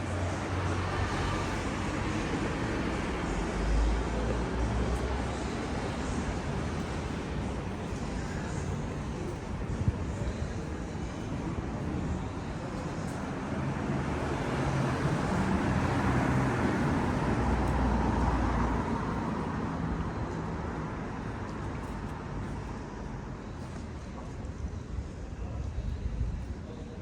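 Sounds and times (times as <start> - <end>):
steady traffic noise: 0.0 - 27.0.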